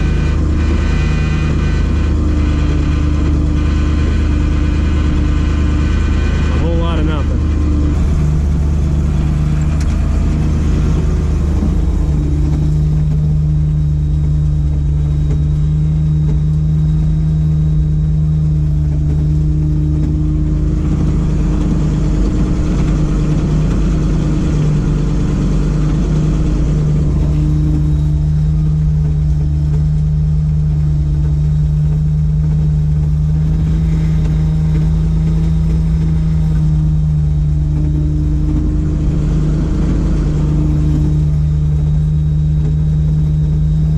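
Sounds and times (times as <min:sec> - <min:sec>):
hydraulic pump hum: 0:00.0 - 0:43.9
truck engine running steadily: 0:00.0 - 0:43.9.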